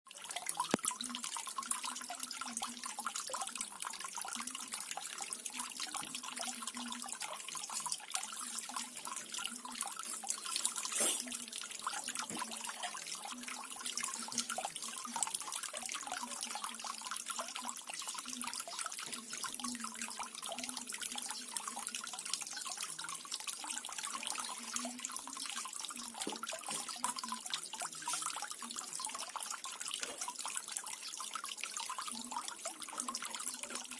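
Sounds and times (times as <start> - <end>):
small waterfall trickling: 0.1 - 33.9.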